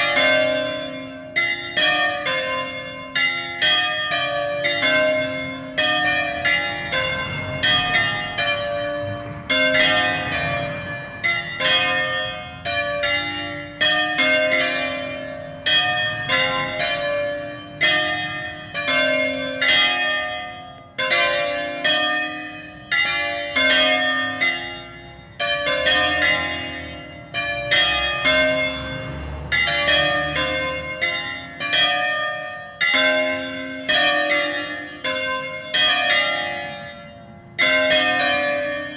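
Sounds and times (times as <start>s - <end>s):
church bells ringing together: 0.0s - 38.9s.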